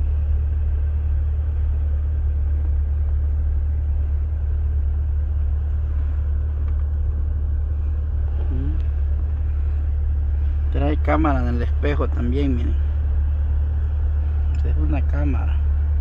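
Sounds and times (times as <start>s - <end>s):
low rumble inside car cabin: 0.0s - 16.0s.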